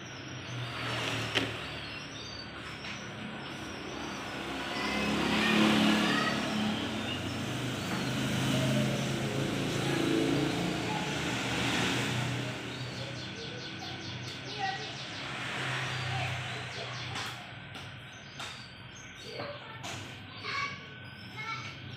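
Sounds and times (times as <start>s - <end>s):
traffic hum: 0.0s - 21.9s
vehicle passing: 0.5s - 18.1s.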